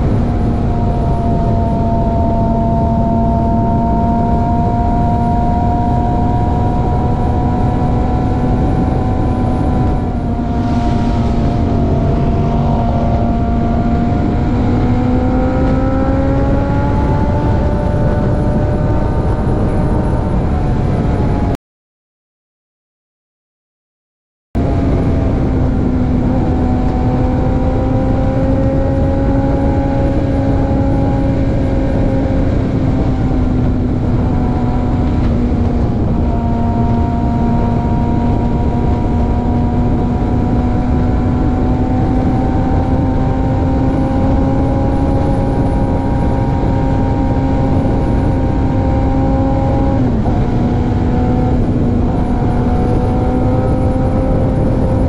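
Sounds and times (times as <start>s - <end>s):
motorcycle engine cruising: 0.0s - 21.5s, 24.6s - 55.0s
road noise: 0.0s - 21.6s, 24.6s - 55.0s
wind noise: 0.0s - 21.6s, 24.6s - 55.0s.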